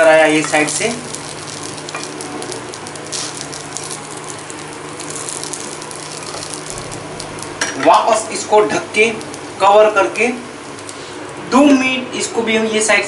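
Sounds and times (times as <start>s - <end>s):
pancake sizzling in butter: 0.0s - 10.9s.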